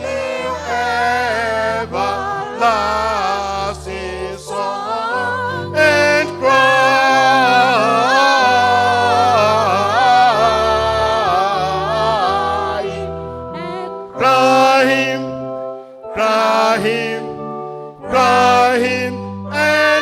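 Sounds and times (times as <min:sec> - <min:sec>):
hymn singing: 0:00.0 - 0:20.0
instrumental accompaniment: 0:00.0 - 0:20.0.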